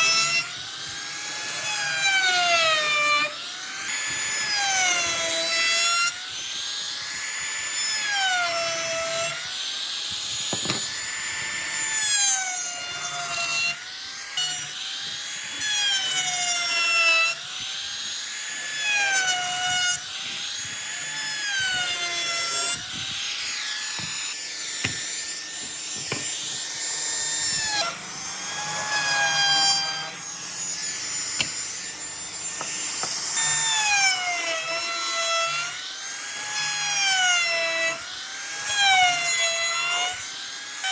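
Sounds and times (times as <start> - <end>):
power tool motor whine: 0.0 - 40.9
wood cutting rasp: 0.0 - 40.9.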